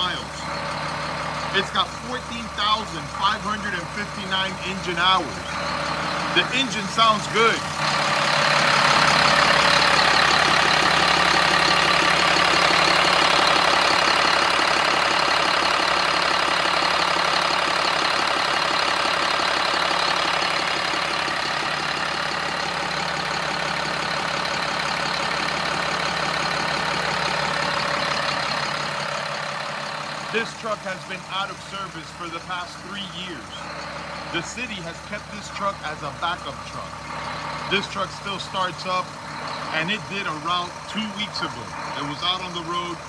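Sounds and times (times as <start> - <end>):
garbage truck diesel engine idling: 0.0 - 43.0.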